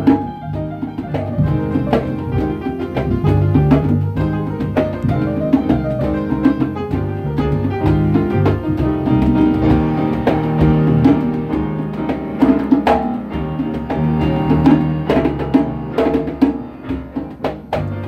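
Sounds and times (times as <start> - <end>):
electric bass guitar: 0.0 - 18.0
hand drums in quick rhythm: 0.0 - 18.0
keyboard chords: 0.0 - 18.0.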